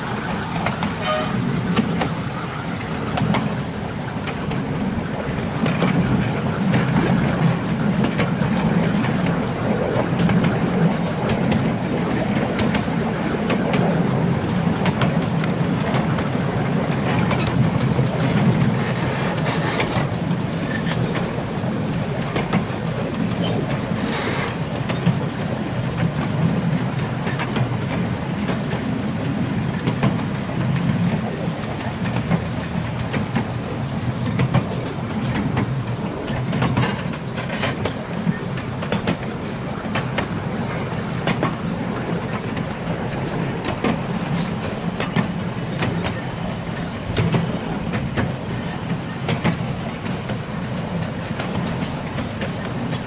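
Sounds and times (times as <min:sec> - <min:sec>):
train wheels rumbling: 0:00.0 - 0:53.0.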